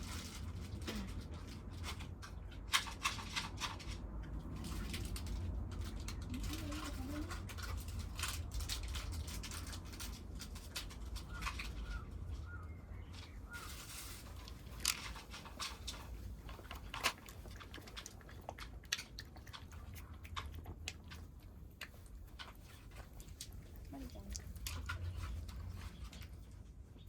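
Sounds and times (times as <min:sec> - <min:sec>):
kittens chewing cat food: 0:00.0 - 0:27.0.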